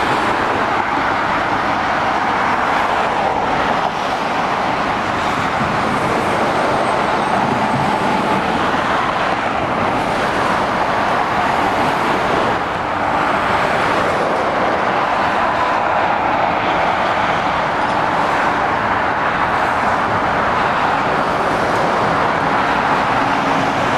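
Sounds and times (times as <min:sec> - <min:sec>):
motorway traffic roar: 0:00.0 - 0:23.9.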